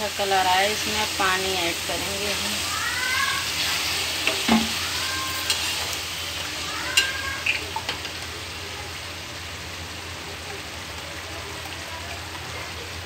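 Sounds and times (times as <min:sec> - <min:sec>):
masala sizzling in a hot pan: 0:00.0 - 0:13.0.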